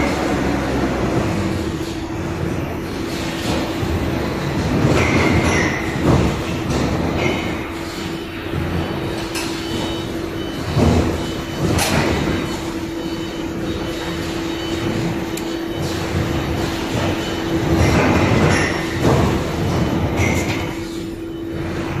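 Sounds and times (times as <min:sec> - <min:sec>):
machinery clanks and knocks: 0:00.0 - 0:22.0
machinery humming and rumbling: 0:00.0 - 0:22.0.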